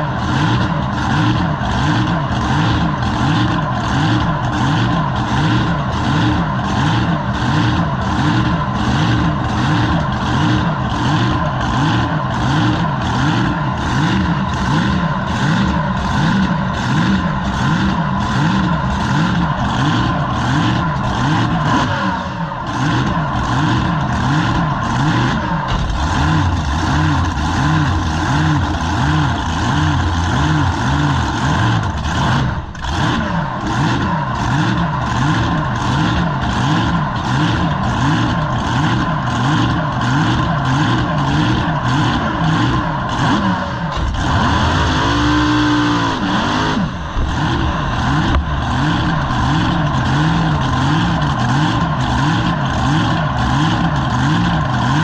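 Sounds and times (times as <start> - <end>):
boat engine pulsing: 0.0 - 55.0.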